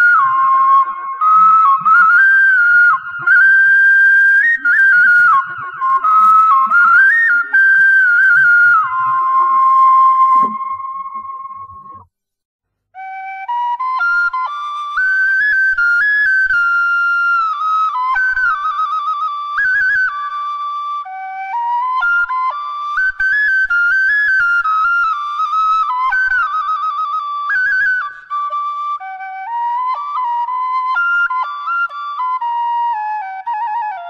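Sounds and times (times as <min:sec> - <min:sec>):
bamboo flute melody with trills: 0:00.0 - 0:12.1, 0:13.0 - 0:34.0.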